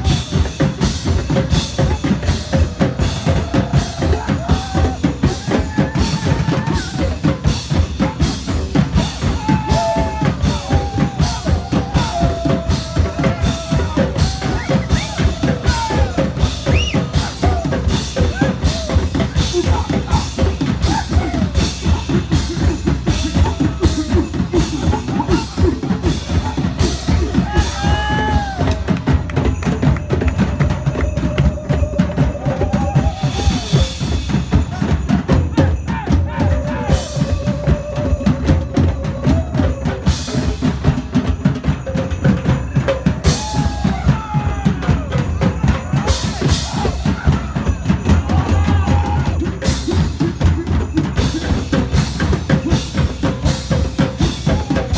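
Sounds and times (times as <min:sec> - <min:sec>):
loud music with heavy drum beat: 0:00.0 - 0:54.9.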